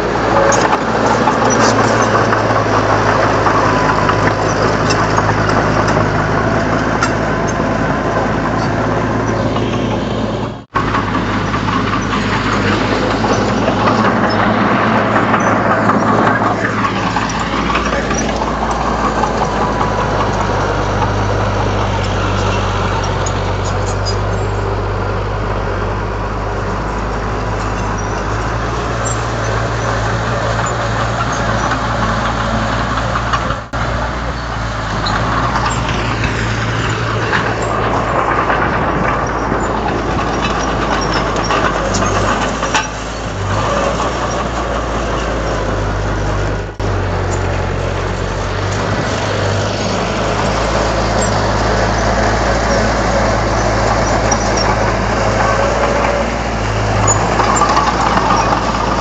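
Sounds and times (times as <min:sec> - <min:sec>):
mechanical clatter: 0:00.0 - 0:25.2, 0:26.6 - 0:59.0
bulldozer diesel engine running: 0:00.0 - 0:59.0.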